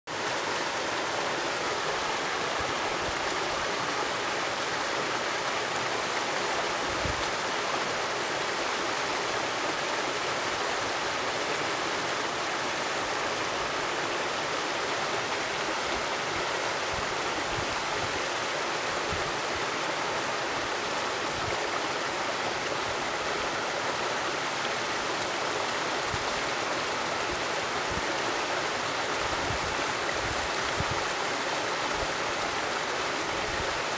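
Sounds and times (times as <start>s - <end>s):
waterfall rushing and splashing: 0.1s - 33.9s.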